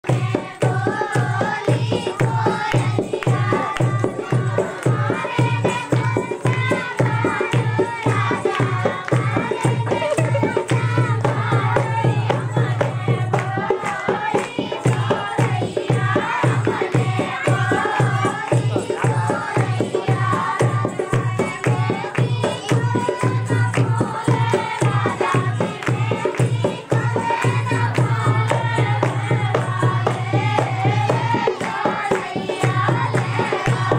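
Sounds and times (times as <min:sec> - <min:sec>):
steady drum beat: 0:00.0 - 0:33.9
rattling percussion: 0:00.1 - 0:33.9.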